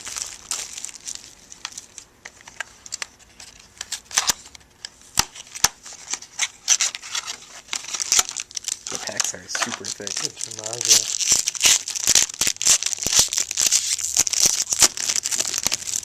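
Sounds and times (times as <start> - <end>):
pack wrapping rustling: 0.0 - 4.4, 5.4 - 16.0.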